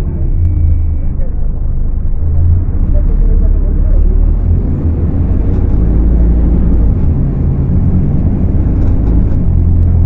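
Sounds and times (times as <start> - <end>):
bus diesel engine drone: 0.0 - 10.0.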